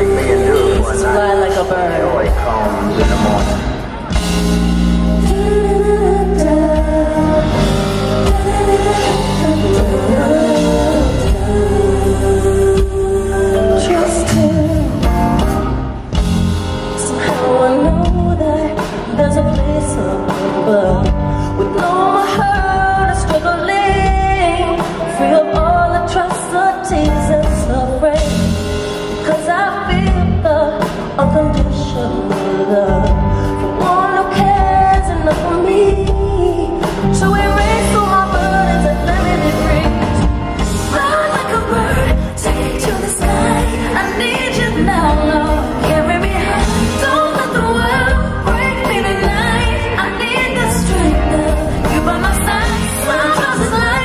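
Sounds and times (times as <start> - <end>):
live band accompaniment: 0.0 - 54.0
woman singing a ballad: 4.9 - 54.0.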